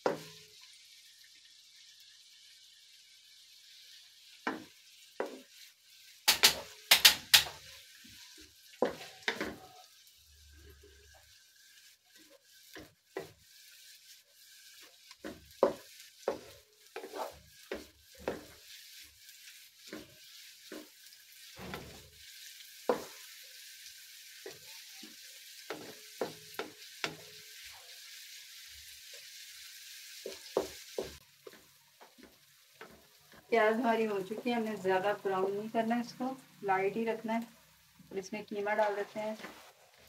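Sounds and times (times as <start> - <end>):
onions sizzling in oil: 0.0 - 40.0
wooden spatula scraping a pan: 3.8 - 35.1, 38.2 - 40.0.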